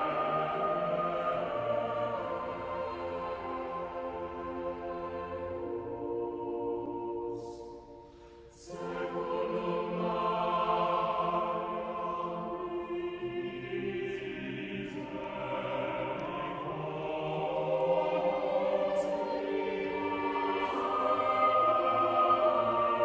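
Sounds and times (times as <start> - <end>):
choir singing in harmony: 0.0 - 23.0.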